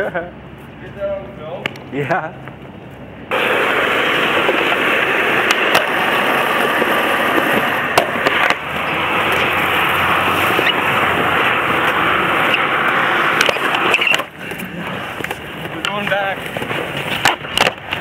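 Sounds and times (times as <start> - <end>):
skateboard wheels rolling on concrete: 0.0 - 18.0
skateboard wheels clicking over joints: 3.3 - 18.0.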